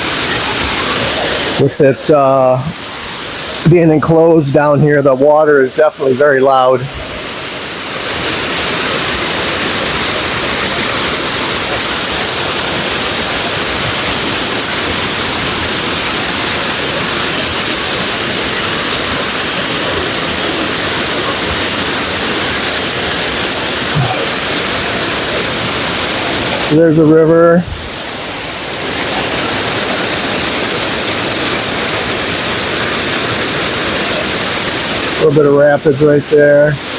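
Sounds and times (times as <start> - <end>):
waterfall and rapids roaring: 0.0 - 36.9.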